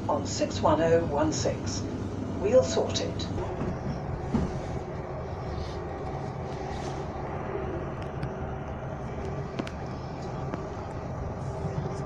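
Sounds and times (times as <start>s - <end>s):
faint hum: 0.0s - 12.0s
wheels rumbling on rails: 0.0s - 12.0s.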